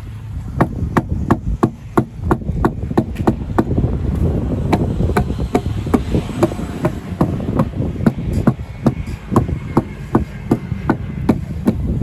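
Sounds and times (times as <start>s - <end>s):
tamping pole knocking concrete: 0.6s - 3.8s, 4.6s - 12.0s.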